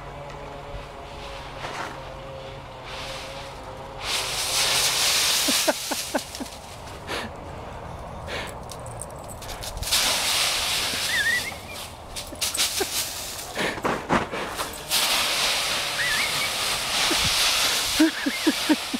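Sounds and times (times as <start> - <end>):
dry leaves rustling and crunching: 0.7 - 7.1, 8.6 - 18.9.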